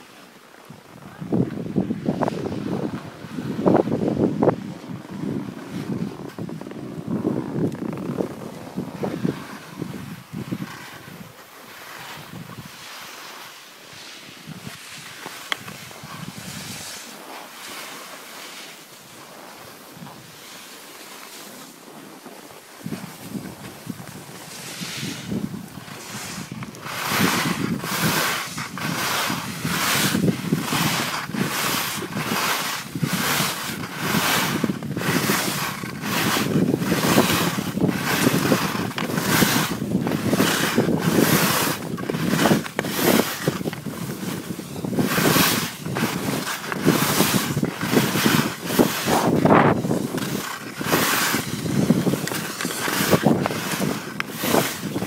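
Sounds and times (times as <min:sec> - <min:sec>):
skis rushing on snow: 0:00.0 - 0:55.0
wind buffeting microphone: 0:00.8 - 0:11.4, 0:12.1 - 0:12.8, 0:14.4 - 0:16.9, 0:22.8 - 0:55.0.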